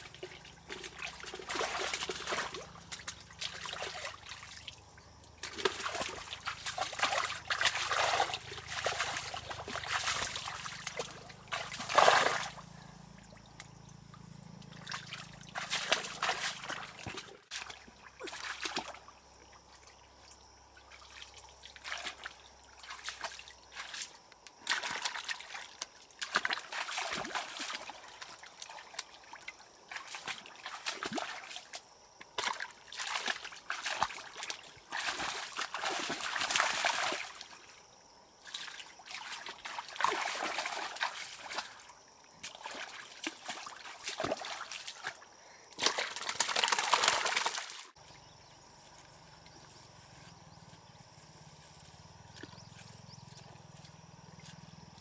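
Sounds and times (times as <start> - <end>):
water sloshing and trickling: 0.0 - 55.0.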